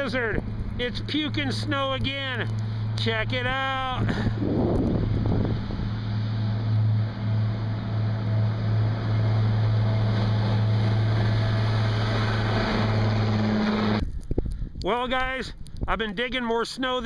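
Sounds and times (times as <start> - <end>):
low engine hum: 0.0 - 14.5.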